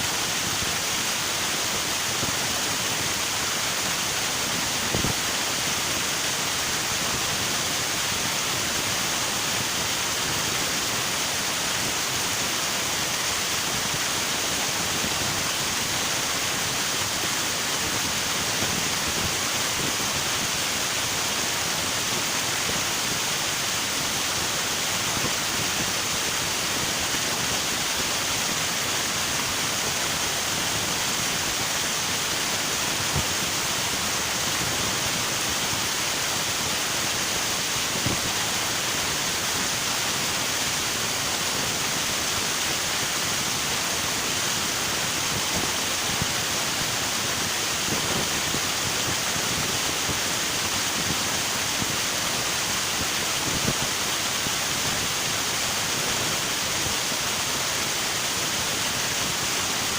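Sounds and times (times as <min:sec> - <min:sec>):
river rushing over rocks: 0:00.0 - 0:59.9.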